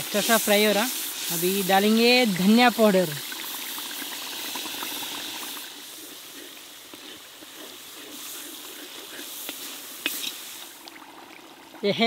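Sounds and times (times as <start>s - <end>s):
paste frying in hot oil: 0.0s - 12.0s.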